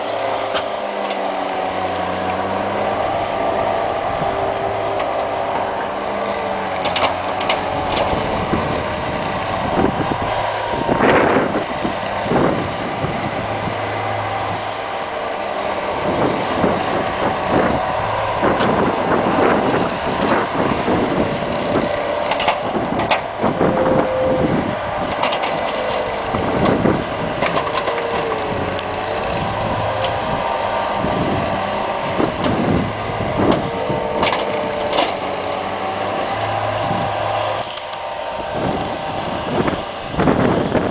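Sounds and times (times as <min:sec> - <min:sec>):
diesel engine running: 0:00.0 - 0:40.9
machine squealing: 0:00.0 - 0:40.9
tracks and plow clanking: 0:00.0 - 0:40.9.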